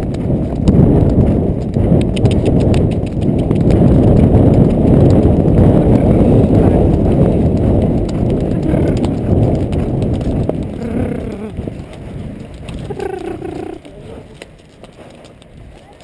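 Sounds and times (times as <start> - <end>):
hooves and tack clicking: 0.0 - 16.0
horse hoofbeats on soft ground: 0.0 - 16.0
wind rumble on microphone: 0.0 - 16.0.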